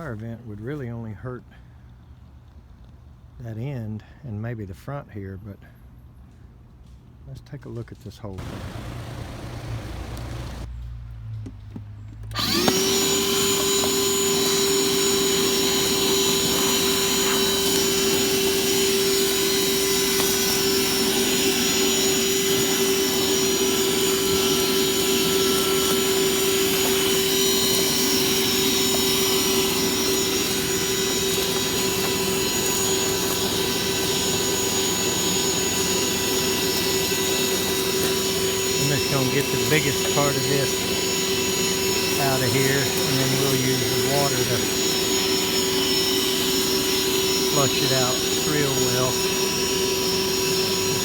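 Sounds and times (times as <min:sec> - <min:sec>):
shop vacuum running with high whine: 0:08.4 - 0:10.7, 0:12.3 - 0:51.0.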